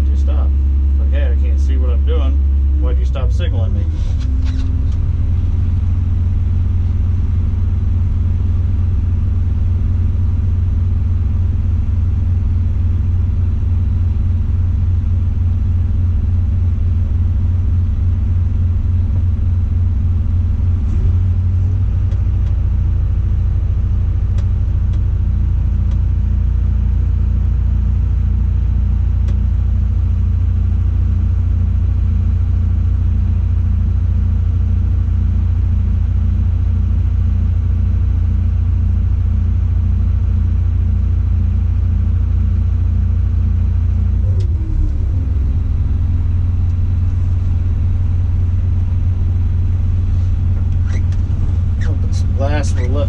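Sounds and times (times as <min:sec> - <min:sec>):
diesel engine rumbling: 0:00.0 - 0:53.0.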